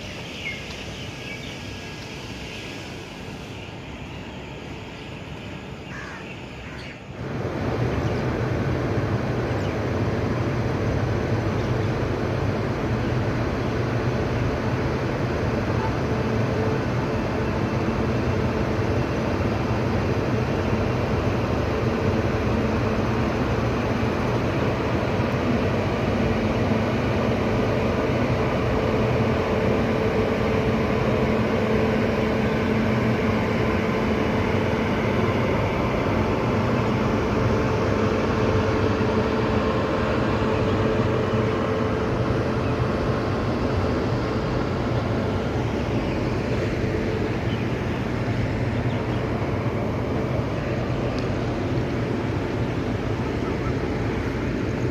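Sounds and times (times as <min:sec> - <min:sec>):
train engine droning: 0:00.0 - 0:54.9.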